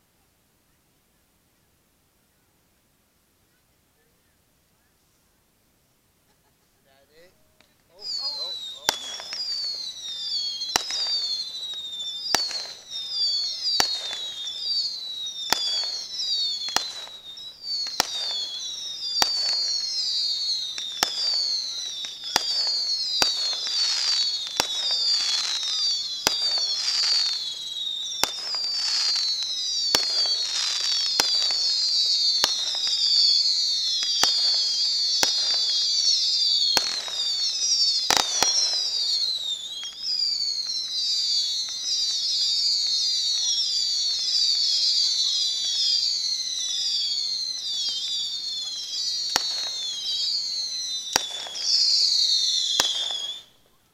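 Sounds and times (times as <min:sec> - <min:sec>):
whistling fireworks: 0:06.4 - 0:53.9
firework bangs: 0:07.2 - 0:53.5.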